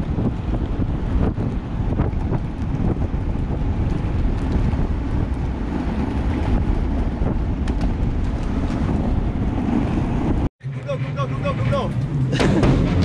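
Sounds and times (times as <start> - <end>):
wind buffeting microphone: 0.0 - 10.5
wheels rolling on asphalt: 0.0 - 10.9, 11.5 - 13.0.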